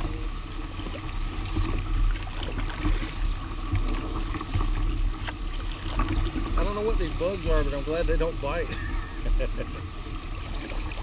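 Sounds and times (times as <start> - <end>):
lily pads scraping kayak hull: 0.0 - 11.0.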